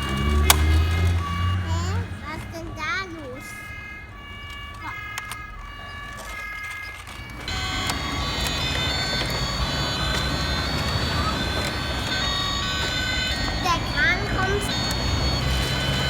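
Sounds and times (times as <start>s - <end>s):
noisy sound with held tones: 0.0s - 16.0s
toy fire truck siren: 0.0s - 16.0s.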